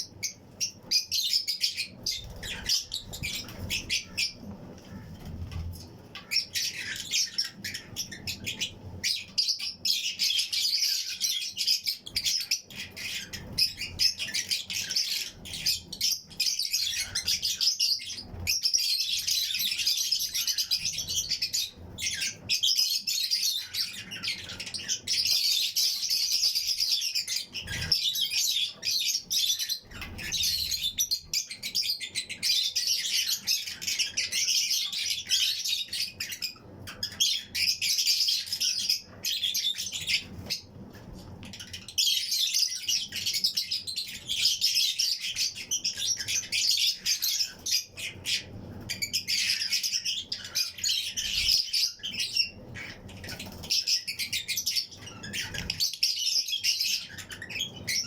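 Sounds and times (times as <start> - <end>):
lovebirds chirping and chattering: 0.0 - 58.0.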